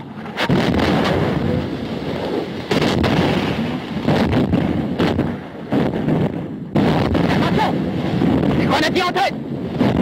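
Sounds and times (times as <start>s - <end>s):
rumble of shellfire: 0.3s - 10.0s.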